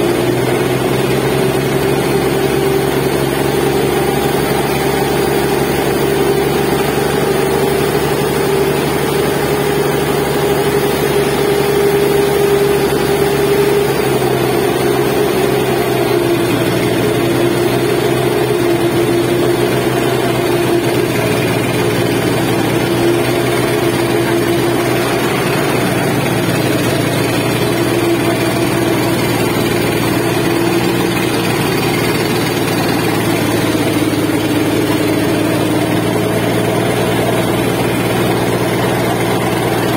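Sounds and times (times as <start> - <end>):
pump boat engine running: 0.0 - 39.9.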